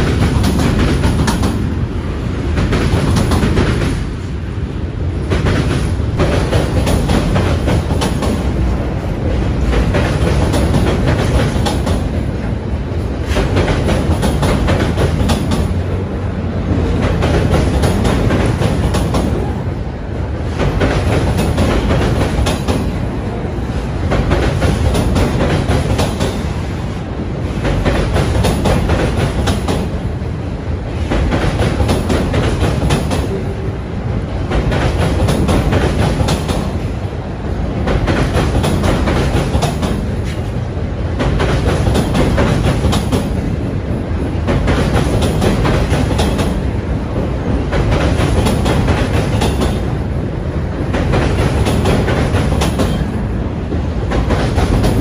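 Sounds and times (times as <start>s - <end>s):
freight train rumbling and rattling: 0.0s - 55.0s.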